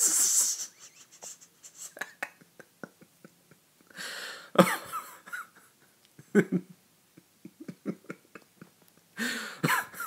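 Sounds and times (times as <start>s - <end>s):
man's stifled laughter: 0.6s - 4.0s, 4.6s - 10.0s.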